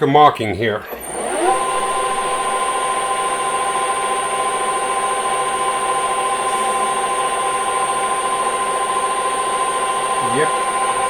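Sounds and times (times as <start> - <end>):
metal lathe whining: 0.8 - 11.0.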